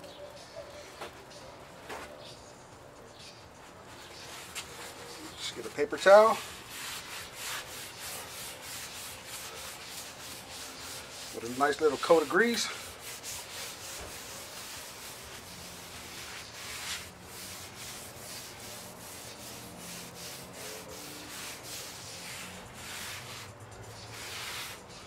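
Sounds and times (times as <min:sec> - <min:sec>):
paper towel wiping griddle: 0:03.9 - 0:25.0.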